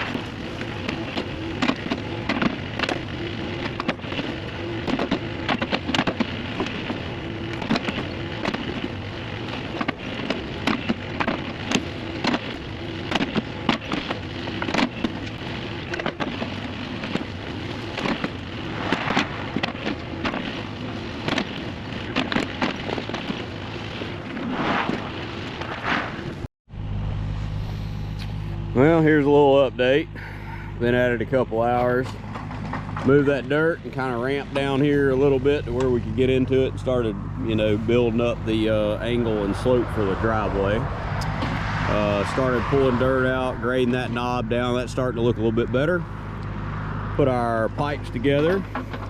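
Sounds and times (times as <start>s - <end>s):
soil and rock crackling: 0.0s - 26.5s, 27.8s - 49.0s
diesel engine running: 0.0s - 49.0s.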